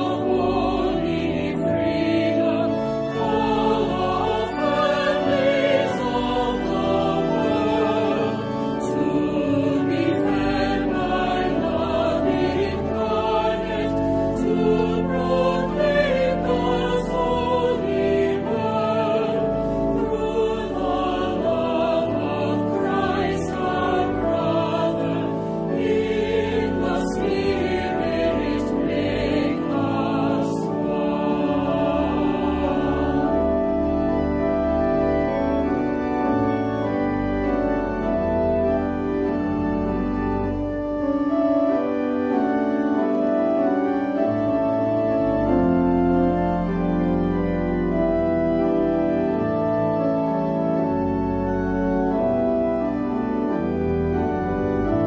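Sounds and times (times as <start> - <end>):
choir singing a hymn: 0.0 - 55.0
organ chords: 0.0 - 55.0.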